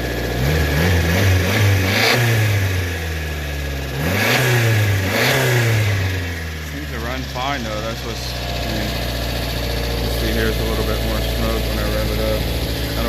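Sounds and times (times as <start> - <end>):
small truck engine revving: 0.0 - 13.0.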